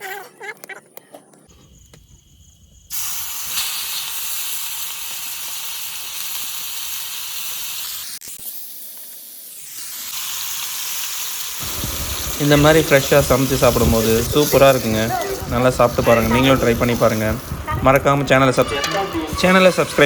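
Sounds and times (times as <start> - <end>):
fish sizzling in hot oil: 2.4 - 18.6.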